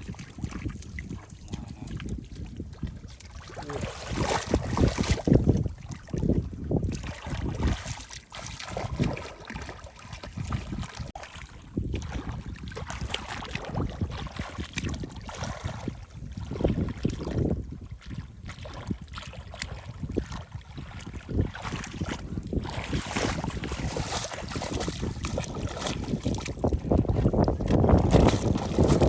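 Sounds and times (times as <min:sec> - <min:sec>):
splashing in shallow water: 0:00.0 - 0:29.0
wind rumbling on microphone: 0:00.0 - 0:29.0.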